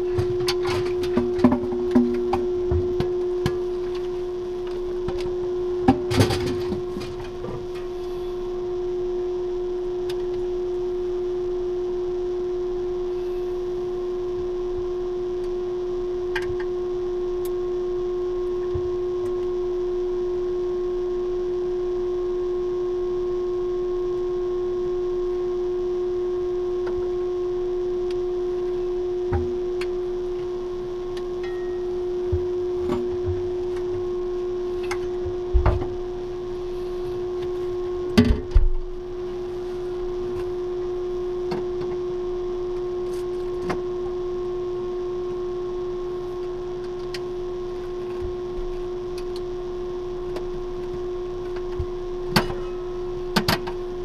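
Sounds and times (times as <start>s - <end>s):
ventilation fans humming: 0.0s - 54.0s.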